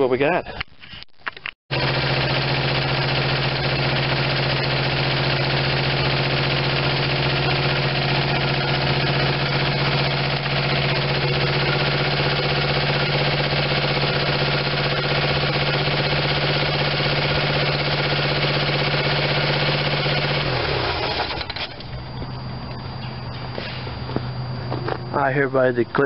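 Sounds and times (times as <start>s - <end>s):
car engine idling: 1.8s - 25.4s.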